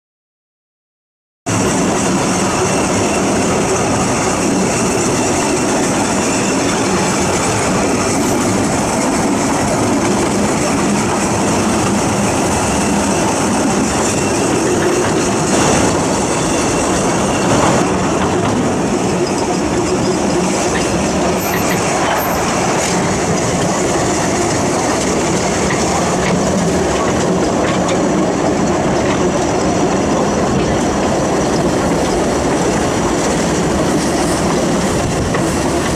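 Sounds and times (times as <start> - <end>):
train wheels clattering on rails: 1.5 - 35.9
wheel squeal: 1.5 - 35.9.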